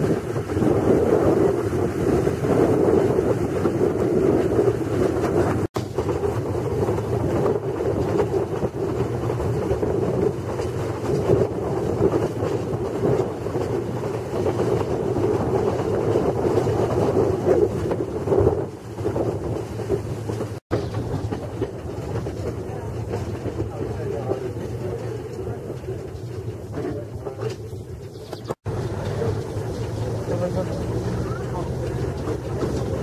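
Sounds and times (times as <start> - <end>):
train wheels rumbling on rails: 0.0 - 33.0
wind on microphone: 0.0 - 33.0.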